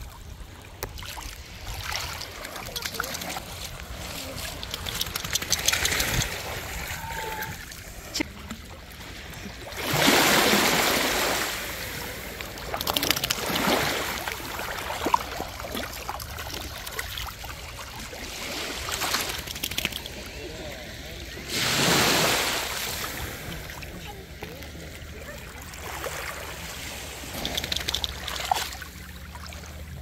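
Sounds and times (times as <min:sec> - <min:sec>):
shallow seawater splashing: 0:00.4 - 0:20.3, 0:20.9 - 0:24.4, 0:25.2 - 0:30.0.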